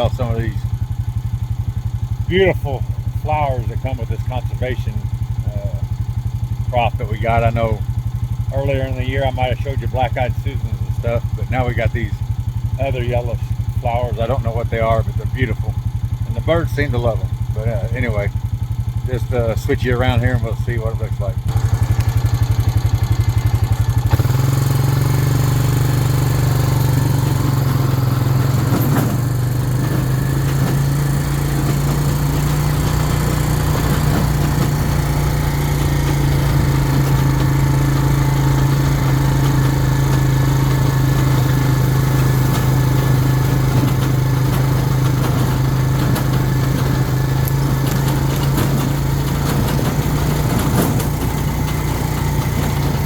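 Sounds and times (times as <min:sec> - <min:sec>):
farm vehicle engine droning: 0:00.0 - 0:53.0.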